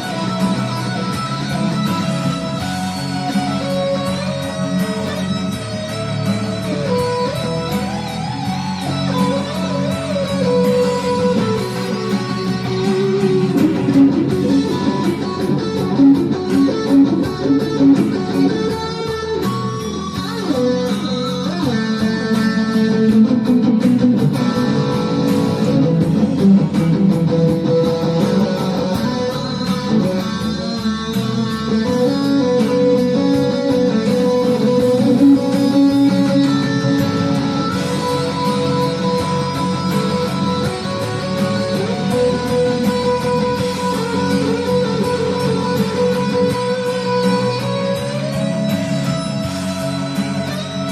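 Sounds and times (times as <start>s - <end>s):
guitar plucked and strummed: 0.0s - 50.9s
steady beat: 0.0s - 50.9s.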